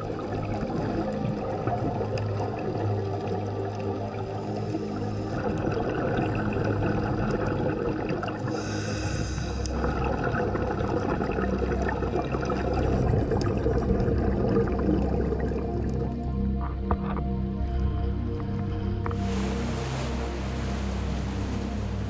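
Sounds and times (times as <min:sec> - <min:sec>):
low humming tones: 0:00.0 - 0:22.0
water gurgling and sloshing: 0:00.0 - 0:22.0.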